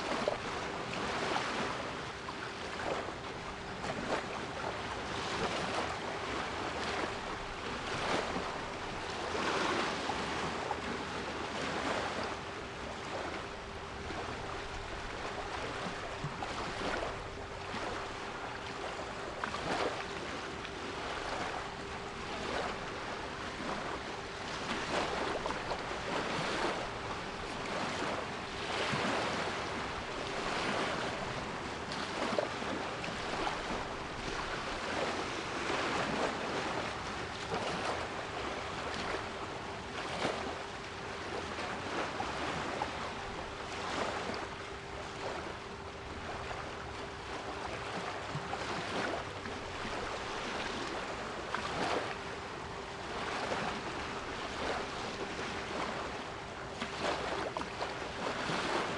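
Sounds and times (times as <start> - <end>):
sea waves surging: 0.0 - 58.9.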